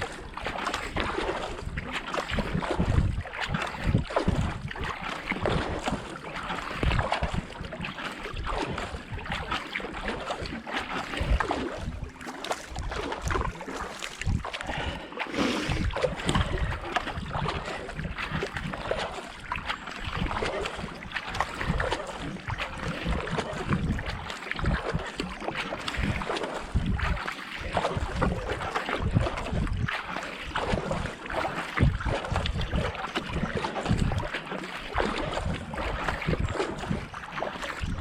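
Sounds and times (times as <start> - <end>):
kayak paddles dipping in water: 0.0 - 38.0
water rushing past hull: 0.0 - 38.0.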